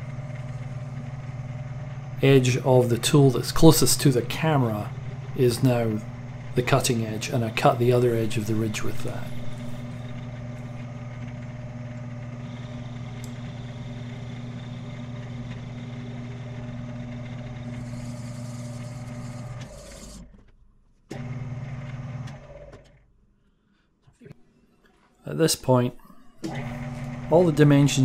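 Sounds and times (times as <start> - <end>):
lathe spindle humming: 0.0 - 20.3, 21.1 - 22.9, 26.4 - 28.0.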